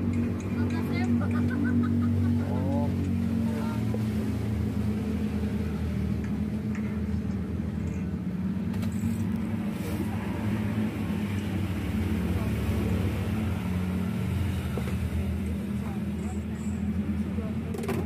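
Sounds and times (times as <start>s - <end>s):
low mechanical motor hum: 0.0s - 18.0s.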